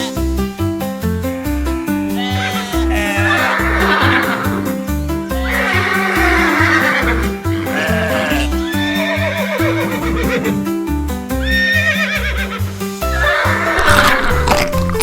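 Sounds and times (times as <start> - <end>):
horse whinnying: 2.1 - 10.7, 11.4 - 15.0.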